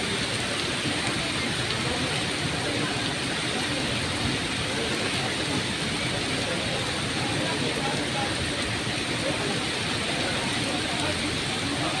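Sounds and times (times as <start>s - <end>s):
rain on wet paving: 0.0s - 12.0s.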